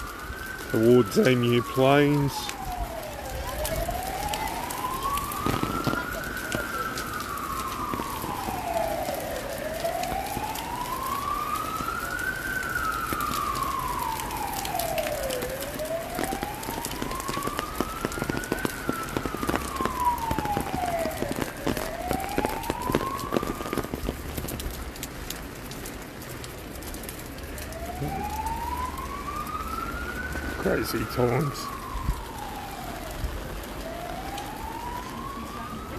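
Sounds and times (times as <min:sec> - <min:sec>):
emergency siren wailing: 0:00.0 - 0:35.9.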